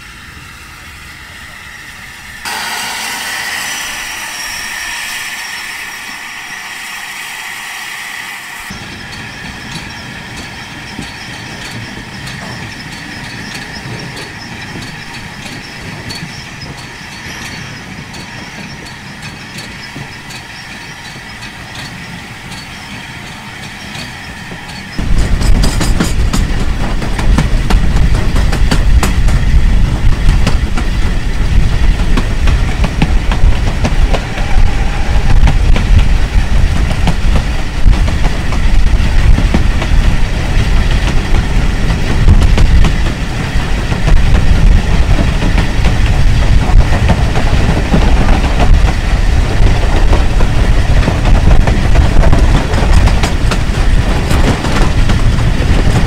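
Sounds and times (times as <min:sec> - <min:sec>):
heavy low train rumble: 0:00.0 - 0:56.0
train wheels clicking over rails: 0:08.6 - 0:56.0.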